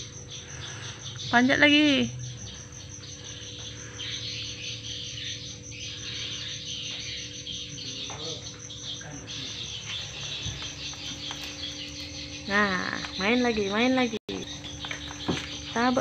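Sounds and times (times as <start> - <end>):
crickets chirping: 0.0 - 16.0
insect trilling: 0.0 - 16.0.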